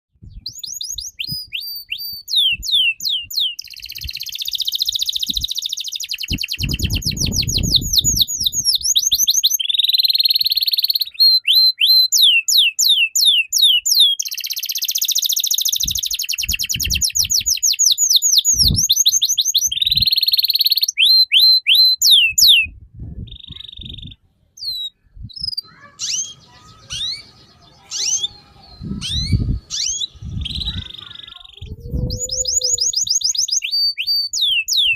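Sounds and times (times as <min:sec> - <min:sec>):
bird chirps: 0:00.2 - 0:34.9
songbird singing: 0:00.2 - 0:34.9.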